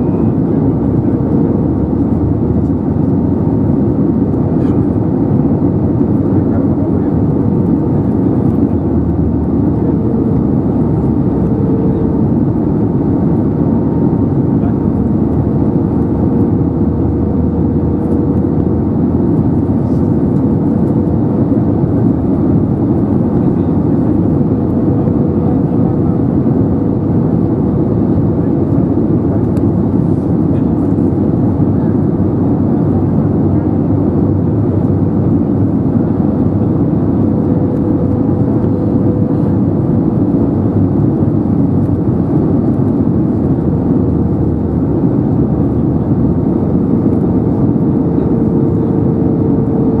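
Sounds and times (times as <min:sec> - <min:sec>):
airflow rushing: 0:00.0 - 0:50.0
faint steady whine: 0:00.0 - 0:50.0
jet engine drone: 0:00.0 - 0:50.0.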